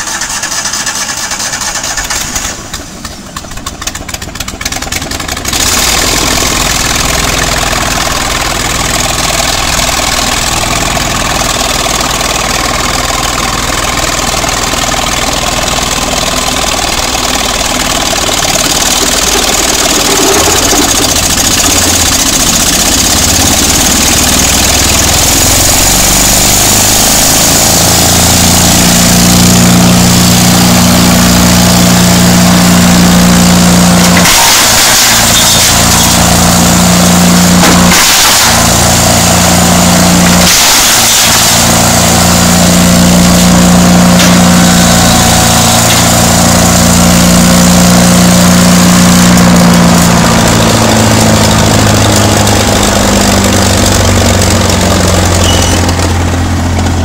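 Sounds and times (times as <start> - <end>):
wood chipper engine running: 0.0 - 57.0.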